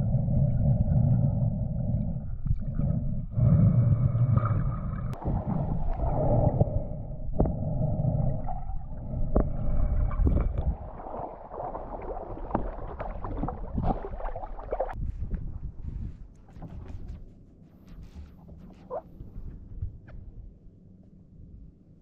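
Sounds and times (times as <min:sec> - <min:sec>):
water gurgling and sloshing: 0:00.0 - 0:20.6.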